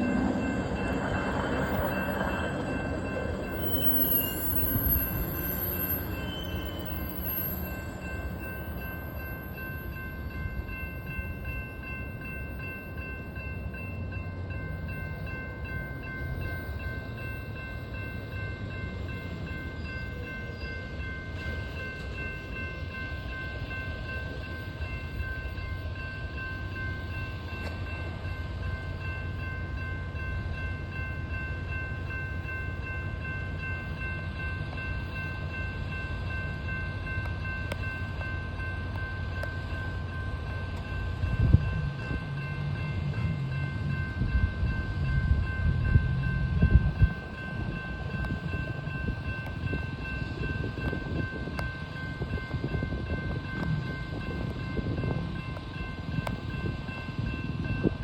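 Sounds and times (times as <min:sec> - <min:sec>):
crossing warning bell ringing: 0:00.0 - 0:58.0.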